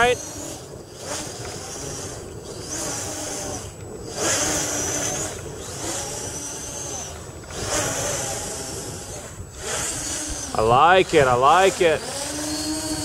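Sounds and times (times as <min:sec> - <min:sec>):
quadcopter buzzing whine: 0:00.0 - 0:13.0.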